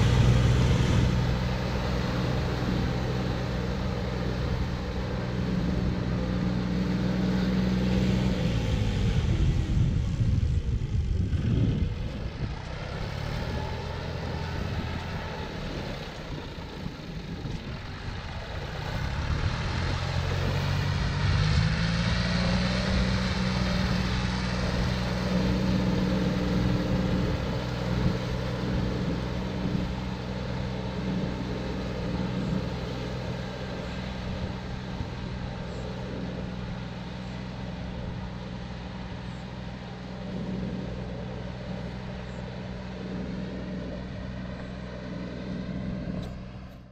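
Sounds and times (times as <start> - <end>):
low rumble: 0.0 - 46.9
tractor diesel engine running: 0.0 - 46.9.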